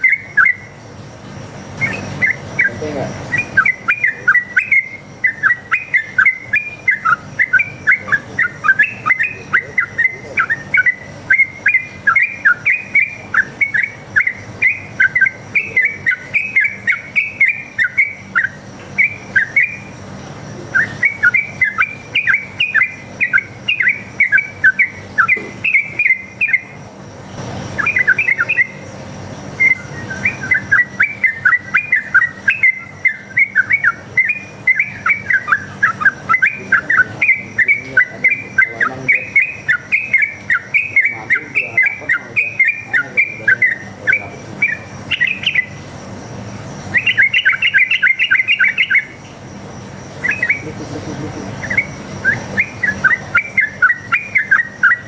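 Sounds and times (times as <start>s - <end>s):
bird singing bubbly chattering notes: 0.0s - 55.0s.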